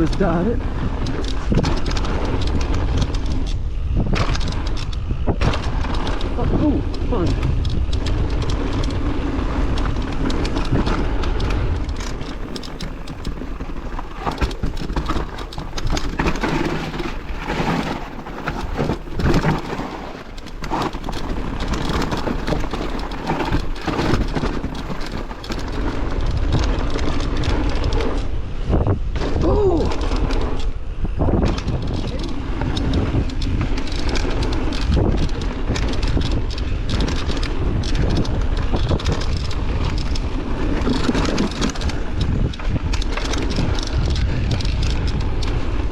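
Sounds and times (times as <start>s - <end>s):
bicycle running noises: 0.0s - 45.9s
wind buffeting microphone: 0.0s - 45.9s.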